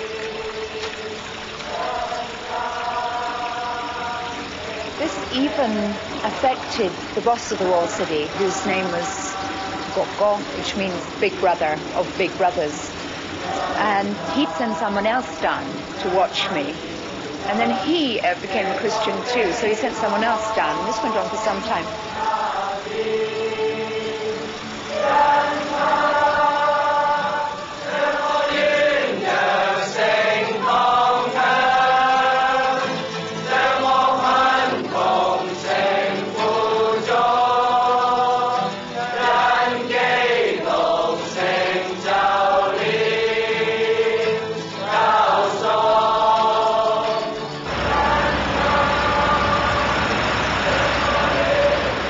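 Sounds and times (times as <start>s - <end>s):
low rumble of street traffic: 0.0s - 43.2s, 47.2s - 52.0s
men singing a hymn: 0.0s - 52.0s.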